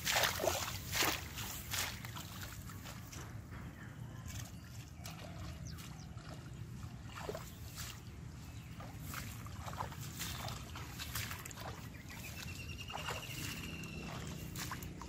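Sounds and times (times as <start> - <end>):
footsteps through grass: 0.0 - 3.4, 4.2 - 15.0.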